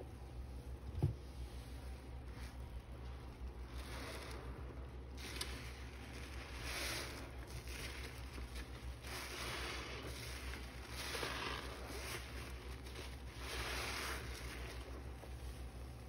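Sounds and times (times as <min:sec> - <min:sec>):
sponge squelching in soapy water: 0:00.3 - 0:16.0.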